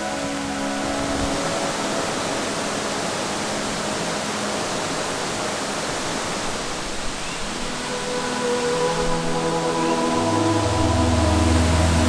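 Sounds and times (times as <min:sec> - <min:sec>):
background music: 0:00.0 - 0:05.6, 0:07.6 - 0:12.0
falling water rushing: 0:00.0 - 0:12.0.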